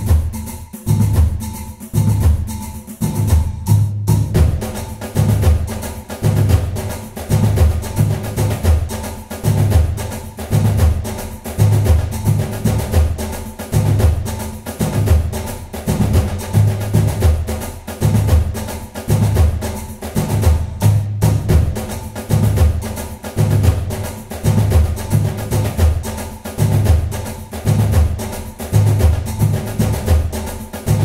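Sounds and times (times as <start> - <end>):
background music with beat: 0.0 - 31.0.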